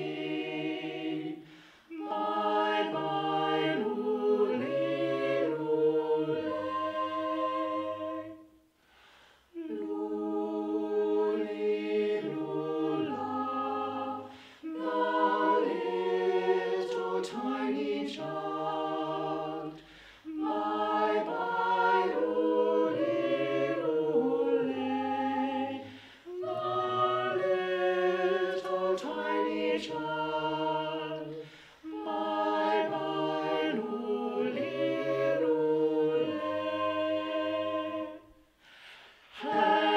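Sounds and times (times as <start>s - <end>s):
choir singing a carol a cappella: 0.0s - 39.9s.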